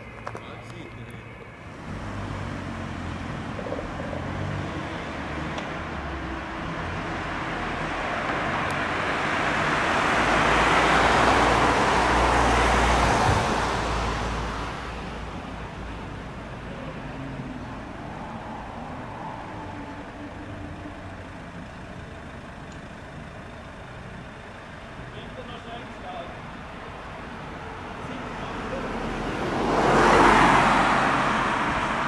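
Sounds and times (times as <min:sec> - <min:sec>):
low engine rumble: 0:00.0 - 0:29.1
van driving past: 0:01.7 - 0:32.0.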